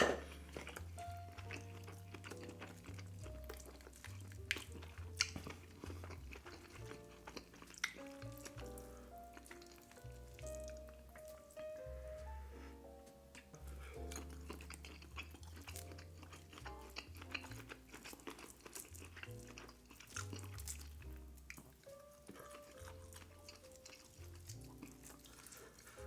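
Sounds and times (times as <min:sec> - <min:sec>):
chewing and smacking: 0:00.0 - 0:11.9, 0:13.3 - 0:26.0
soft background music: 0:00.0 - 0:26.0.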